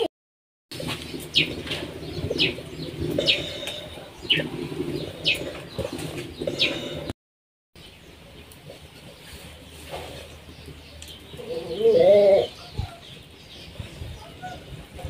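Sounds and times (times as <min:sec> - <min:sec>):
birds chirping: 0:00.8 - 0:07.1, 0:07.8 - 0:15.0.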